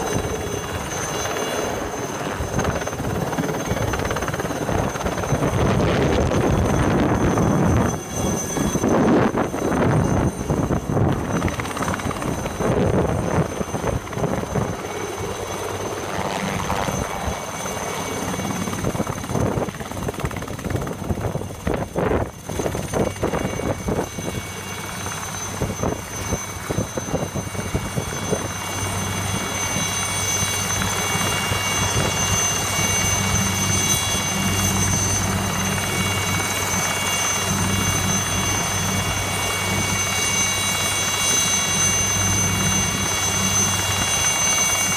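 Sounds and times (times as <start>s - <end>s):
helicopter turbine whine: 0.0s - 44.9s
low beat of helicopter rotor: 0.0s - 44.9s.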